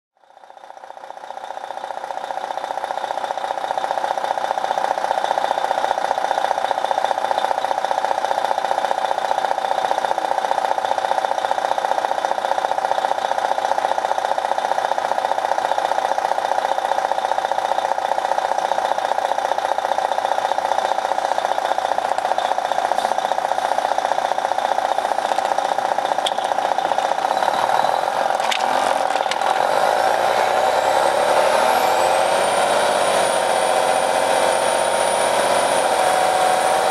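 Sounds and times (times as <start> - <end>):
bus engine running: 0.3 - 36.9.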